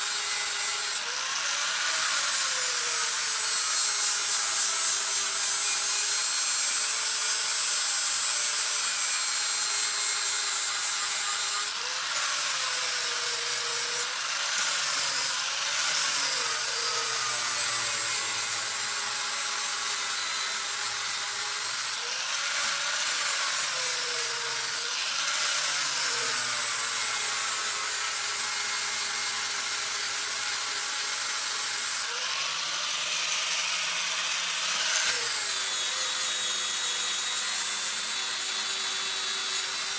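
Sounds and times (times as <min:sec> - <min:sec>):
electric grinder on steel: 0:00.0 - 0:39.9.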